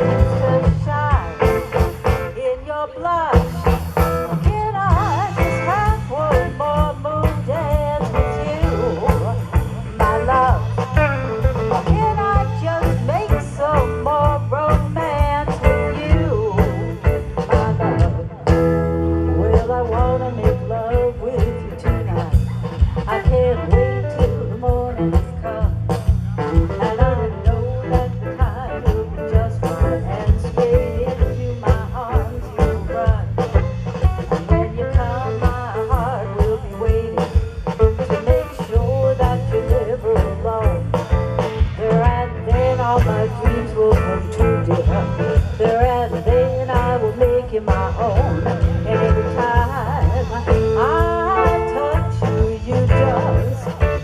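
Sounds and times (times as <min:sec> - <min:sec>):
steady drum beat: 0:00.0 - 0:02.4, 0:03.3 - 0:54.0
blues band music: 0:00.0 - 0:54.0.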